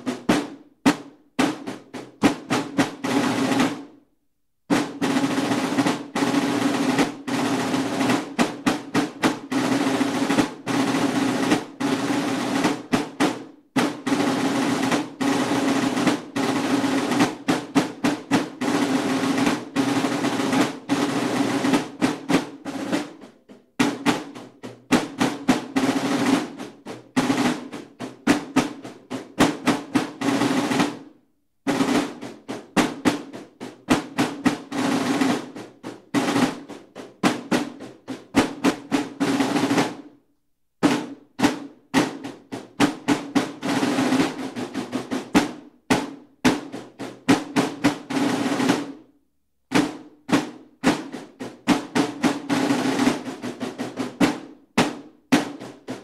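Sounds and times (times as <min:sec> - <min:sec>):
marching snare drums: 0:00.0 - 0:04.0, 0:04.7 - 0:40.2, 0:40.8 - 0:49.1, 0:49.7 - 0:56.0.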